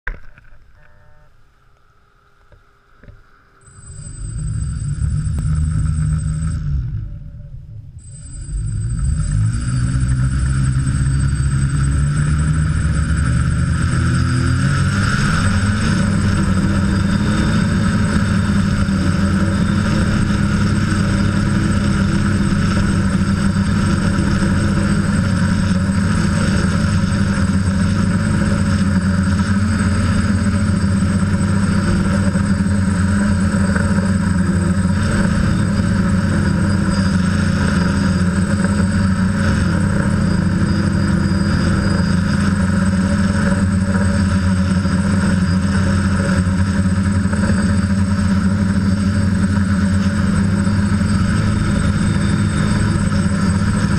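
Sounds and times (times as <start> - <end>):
drone motors and propellers: 0.1 - 53.9.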